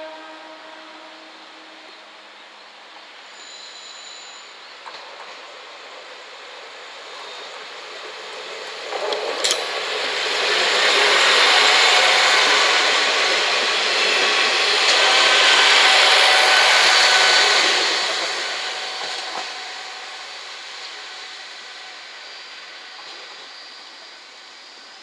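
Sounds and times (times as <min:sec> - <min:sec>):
train wheels grinding over rails: 0:03.2 - 0:24.9.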